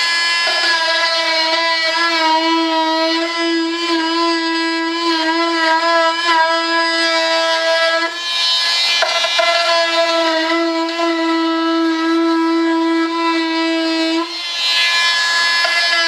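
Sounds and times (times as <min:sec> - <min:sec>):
rotary tool cutting whine: 0:00.0 - 0:16.0.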